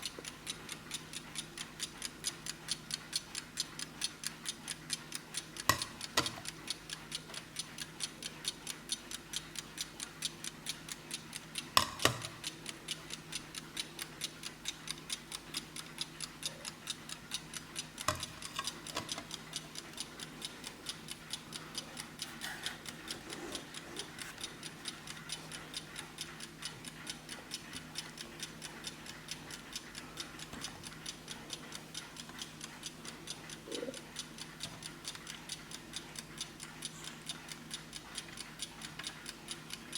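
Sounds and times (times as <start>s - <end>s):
mechanical alarm clock ticking: 0.0s - 39.9s.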